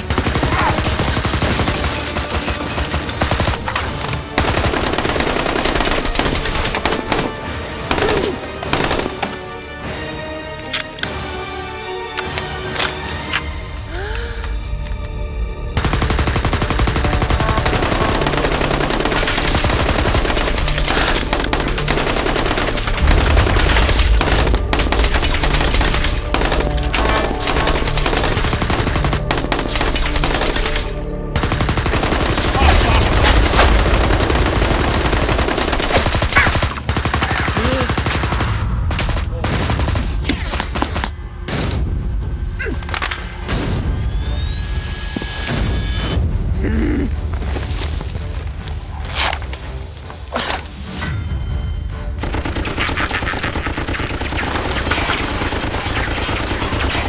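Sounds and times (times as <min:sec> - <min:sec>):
action music: 0:00.0 - 0:57.0.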